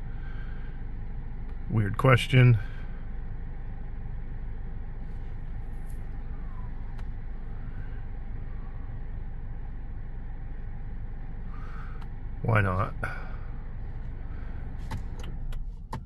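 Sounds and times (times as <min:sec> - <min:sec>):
low rumbling hum in car: 0:00.0 - 0:16.0.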